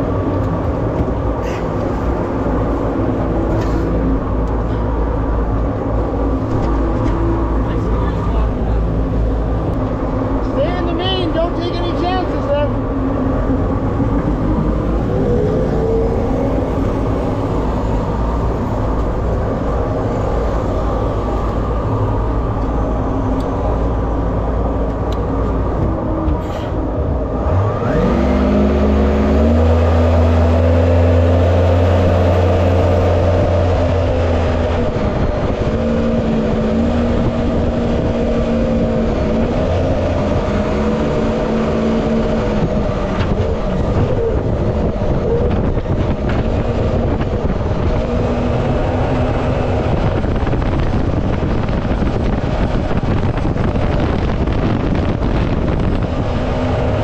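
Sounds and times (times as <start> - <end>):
wind: 0.0 - 57.0
boat engine revving: 1.2 - 57.0.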